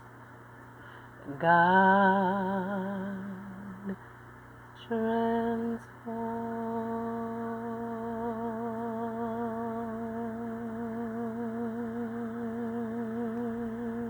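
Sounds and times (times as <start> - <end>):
person singing a long note: 1.2 - 4.0, 4.8 - 14.0.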